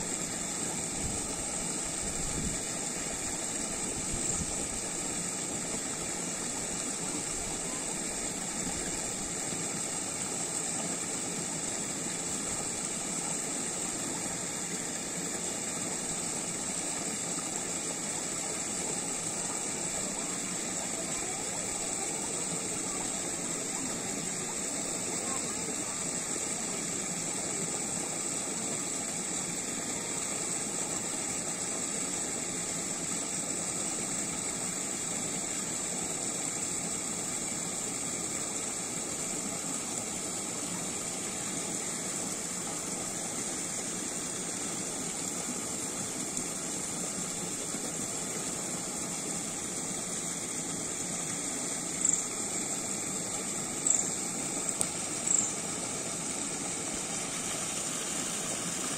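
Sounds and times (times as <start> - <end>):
water splashing over weir: 0.0 - 58.9.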